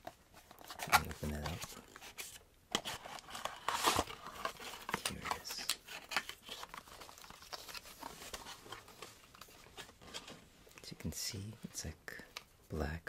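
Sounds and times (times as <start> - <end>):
packaging rustling and crinkling: 0.0 - 11.5.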